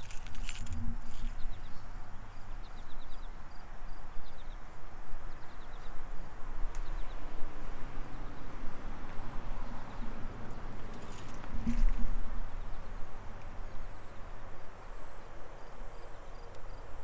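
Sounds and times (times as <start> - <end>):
wind noise on microphone: 0.0 - 13.8.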